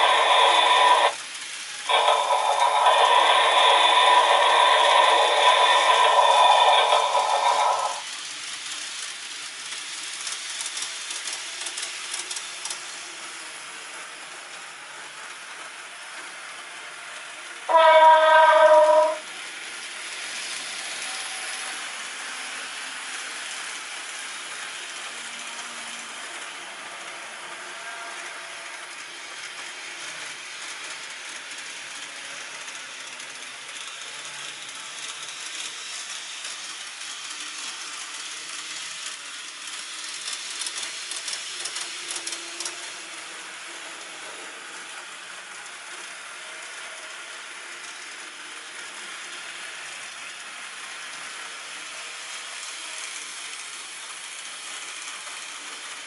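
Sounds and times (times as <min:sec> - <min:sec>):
model trains whirring and clattering: 0:00.0 - 0:56.0.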